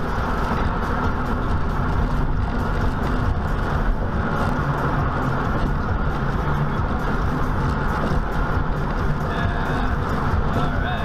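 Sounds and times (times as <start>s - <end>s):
car cruising road and engine noise: 0.0s - 11.0s.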